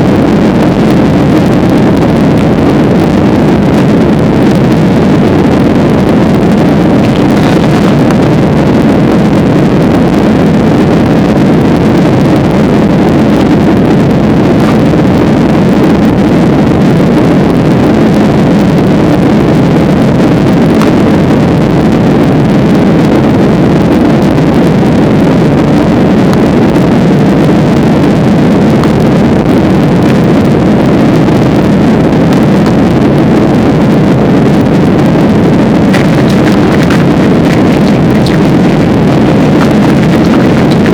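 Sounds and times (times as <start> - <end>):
plane cabin engine noise: 0.0 - 40.9.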